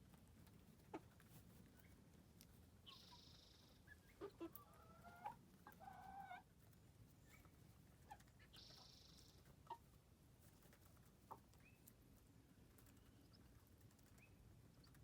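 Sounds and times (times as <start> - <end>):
chicks calling softly: 0.4 - 15.0.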